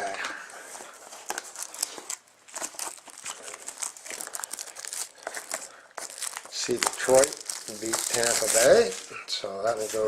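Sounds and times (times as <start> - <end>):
plastic wrapping crinkling and tearing: 0.6 - 10.0.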